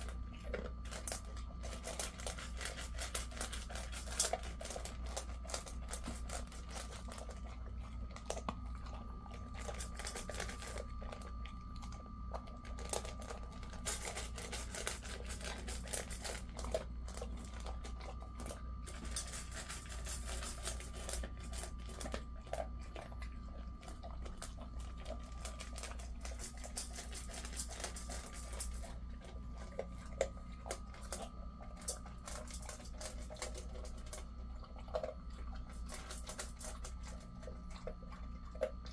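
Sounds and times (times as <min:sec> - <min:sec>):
dog crunching kibble: 0:00.0 - 0:38.9
low steady hum: 0:00.0 - 0:38.9.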